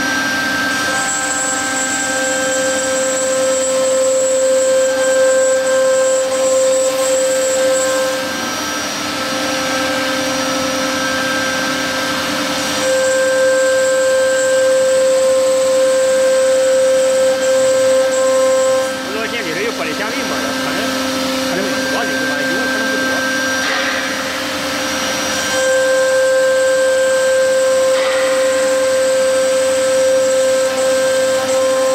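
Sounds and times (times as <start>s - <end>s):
cnc router spindle whine: 0.0s - 31.9s
router cutting fiber board: 0.0s - 31.9s.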